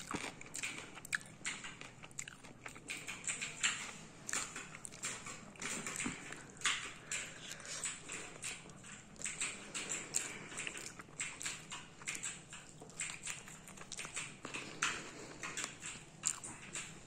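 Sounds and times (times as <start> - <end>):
toddler chewing wet smacks: 0.0 - 17.0.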